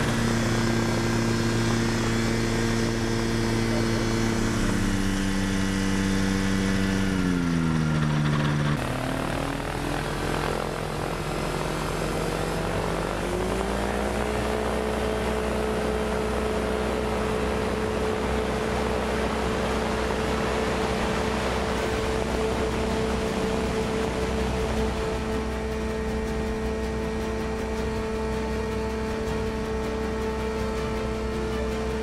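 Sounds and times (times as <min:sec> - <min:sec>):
microlight engine and propeller: 0:00.0 - 0:32.0.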